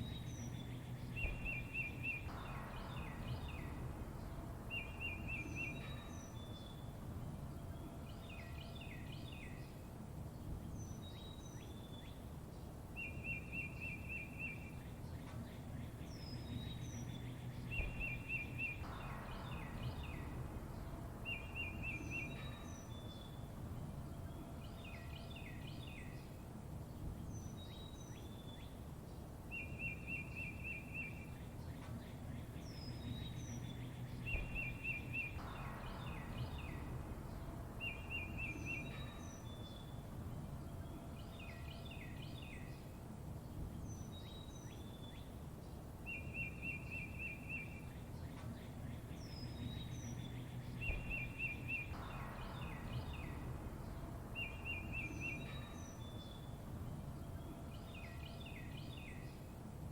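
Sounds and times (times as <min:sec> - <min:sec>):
low background rumble: 0:00.0 - 0:59.9
songbirds chirping: 0:00.0 - 0:59.9.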